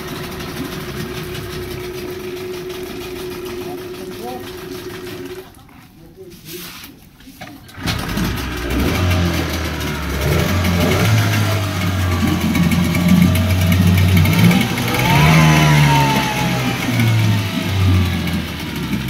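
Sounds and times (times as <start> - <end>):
outboard motor running: 0.0 - 5.8, 7.7 - 19.0.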